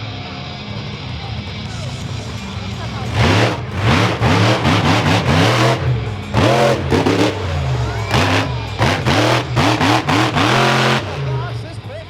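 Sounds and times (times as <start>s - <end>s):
truck engine revving in blips: 1.6s - 12.0s.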